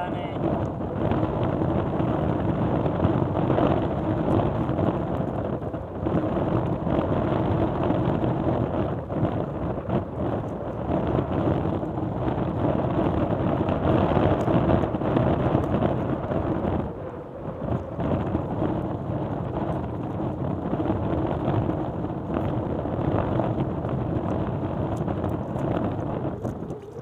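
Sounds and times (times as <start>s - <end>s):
wind blowing across microphone: 0.0s - 27.0s.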